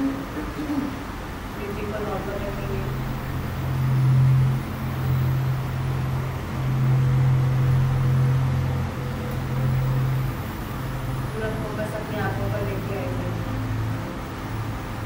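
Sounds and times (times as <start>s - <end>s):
low pulsing hum: 0.0s - 15.0s.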